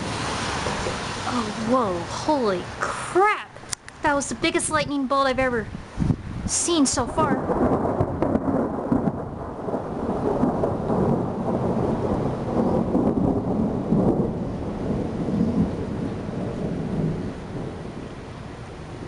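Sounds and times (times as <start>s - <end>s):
rain falling: 0.0s - 19.0s
thunder rumbling: 0.0s - 19.0s.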